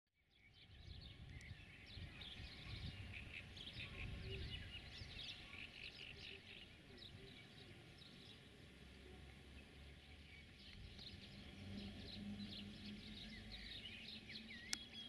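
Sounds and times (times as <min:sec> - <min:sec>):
birds chirping and singing: 0:00.2 - 0:15.0.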